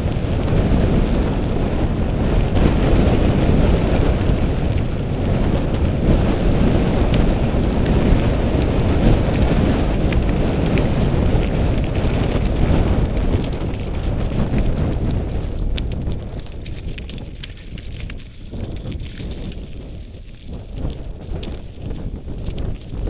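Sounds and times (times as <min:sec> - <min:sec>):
bike tyres crunching on gravel: 0:00.0 - 0:23.0
wind buffeting microphone: 0:00.0 - 0:23.0.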